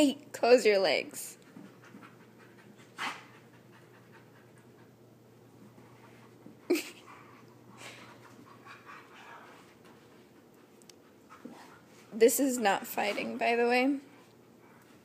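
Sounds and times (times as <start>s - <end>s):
dogs panting: 1.3s - 15.0s.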